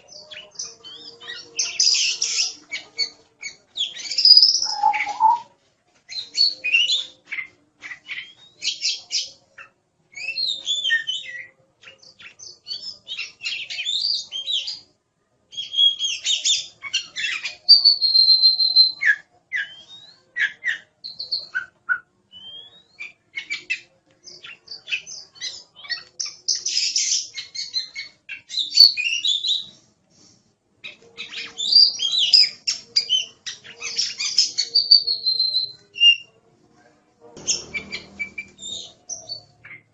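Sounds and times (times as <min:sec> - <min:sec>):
bird singing varied song: 0:00.0 - 0:14.9, 0:15.5 - 0:29.9, 0:30.8 - 0:36.4, 0:37.4 - 0:39.9.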